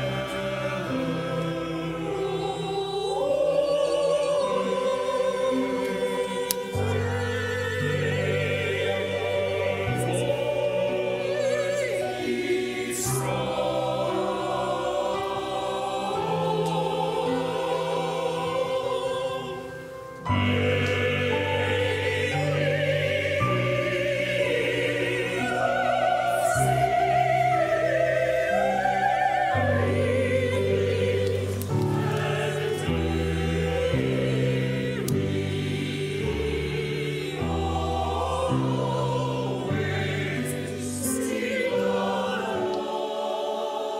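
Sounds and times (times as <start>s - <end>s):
mixed choir singing: 0.0s - 43.9s
piano accompaniment: 0.0s - 43.9s.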